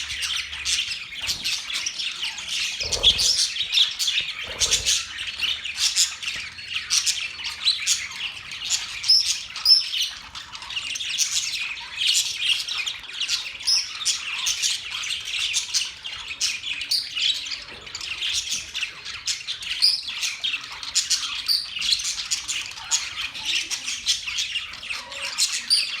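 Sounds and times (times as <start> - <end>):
parrots chirping and squawking: 0.0 - 26.0.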